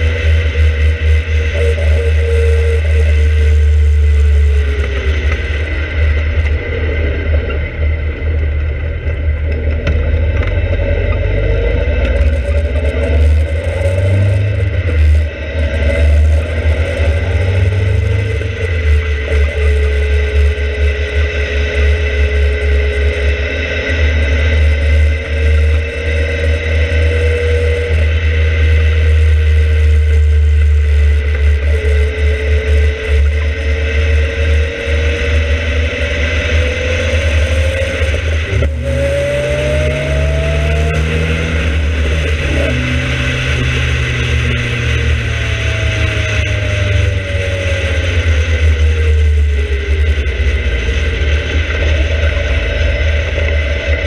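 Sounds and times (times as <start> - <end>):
sports car engine running hard: 0.0 - 54.0.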